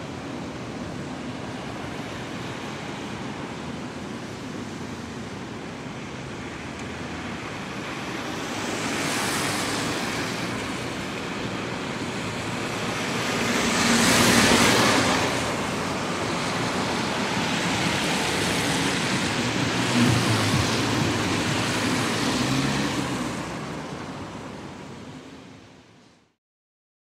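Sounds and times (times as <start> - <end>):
road traffic passing: 0.0 - 26.1.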